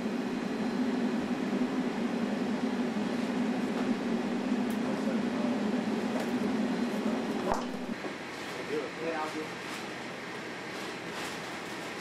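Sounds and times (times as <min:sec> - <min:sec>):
ventilation blower humming: 0:00.0 - 0:12.0.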